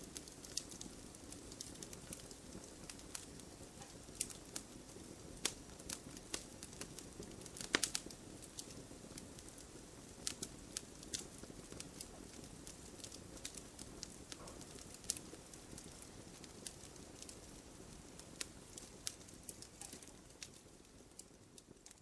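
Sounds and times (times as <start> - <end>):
bonfire crackling and snapping: 0.0 - 22.0.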